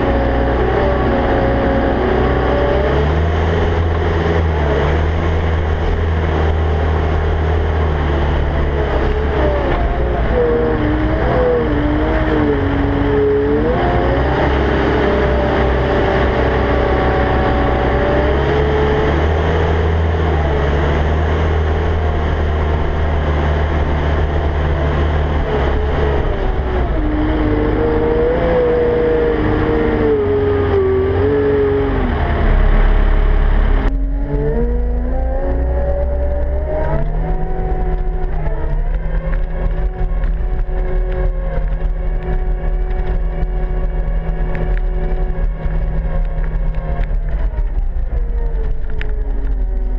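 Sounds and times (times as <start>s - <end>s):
diesel engine running: 0.0s - 49.9s
whine rising and falling: 0.0s - 49.9s.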